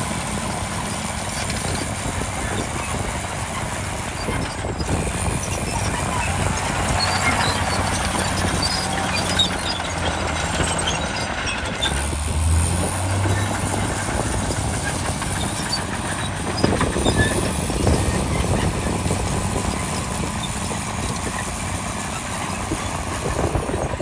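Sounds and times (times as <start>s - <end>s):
heavy diesel machinery engine: 0.0s - 24.0s
steady rattling: 0.4s - 24.0s.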